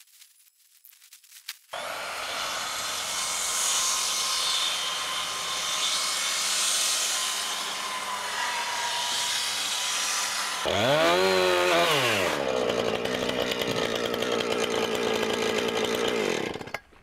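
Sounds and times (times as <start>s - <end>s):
chainsaw cutting wood: 1.7s - 17.0s.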